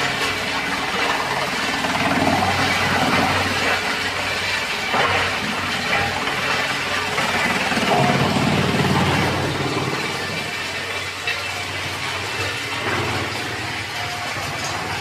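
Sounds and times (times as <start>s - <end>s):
wood chipper running: 0.0s - 15.0s.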